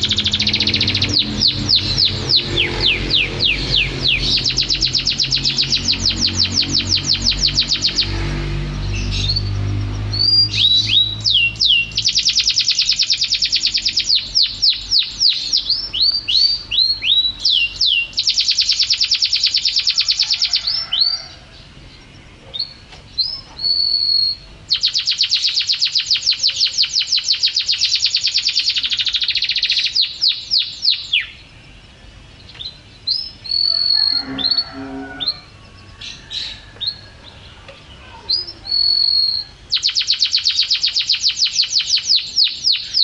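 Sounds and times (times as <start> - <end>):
canary singing trills: 0.0 - 43.0.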